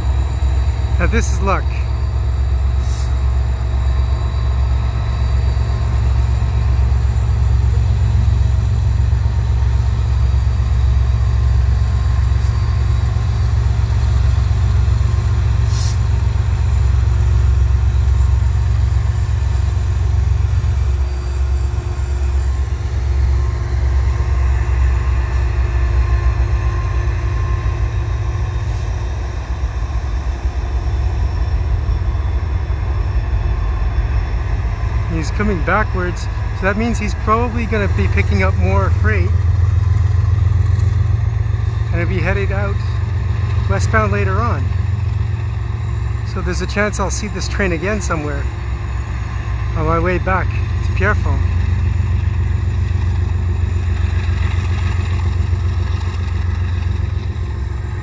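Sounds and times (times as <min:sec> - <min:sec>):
diesel locomotives rumbling: 0:00.0 - 0:58.0.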